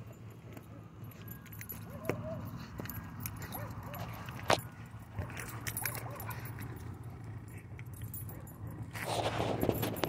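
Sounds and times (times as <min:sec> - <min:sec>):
metal collar tags jingling: 0:00.0 - 0:10.0.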